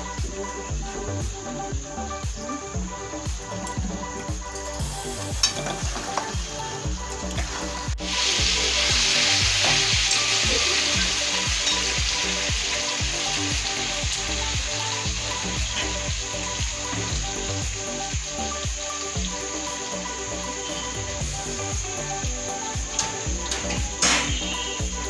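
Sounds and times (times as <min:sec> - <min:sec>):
meat sizzling in oil: 0:04.4 - 0:25.0.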